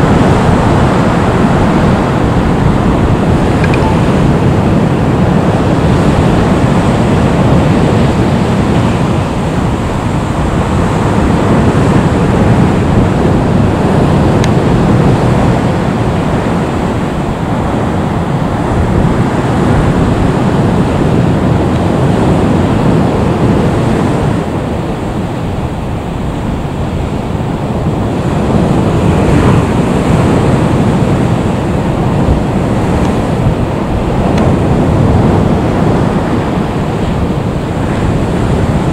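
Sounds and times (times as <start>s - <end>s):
jet engines at low power: 0.0s - 38.9s
wind buffeting microphone: 0.0s - 38.9s.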